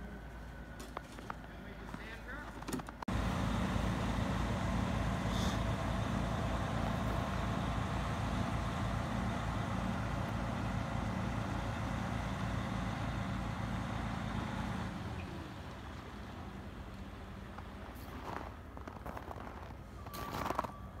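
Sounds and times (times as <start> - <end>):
diesel truck engine idling: 3.0 - 21.0.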